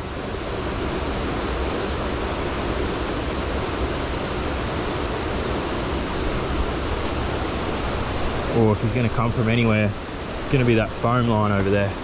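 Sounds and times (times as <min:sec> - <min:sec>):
creek water cascading: 0:00.0 - 0:12.0.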